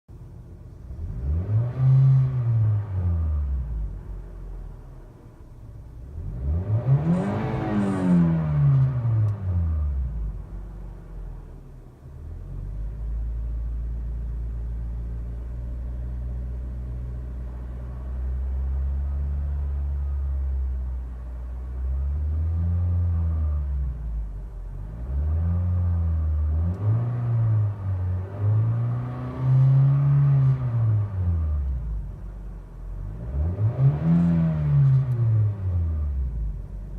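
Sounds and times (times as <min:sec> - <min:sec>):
car engine idling and revving: 0:00.1 - 0:36.9.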